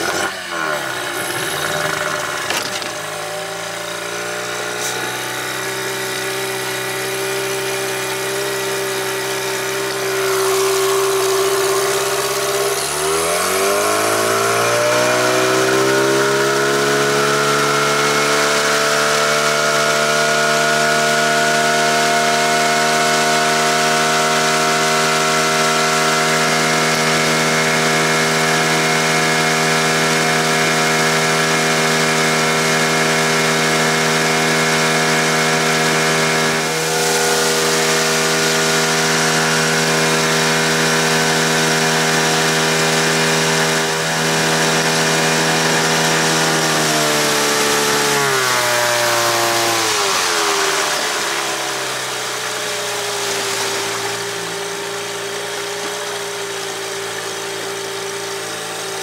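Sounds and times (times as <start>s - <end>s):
outboard motor running at high speed: 0.0s - 59.0s.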